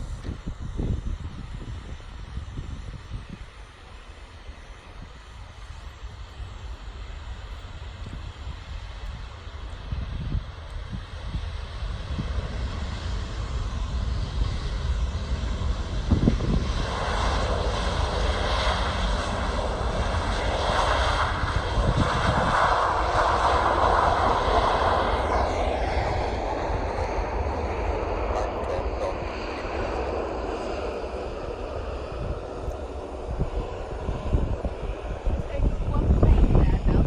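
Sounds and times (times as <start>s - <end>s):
airliner engine roar: 0.0s - 37.0s
steady low rumble: 0.0s - 37.0s.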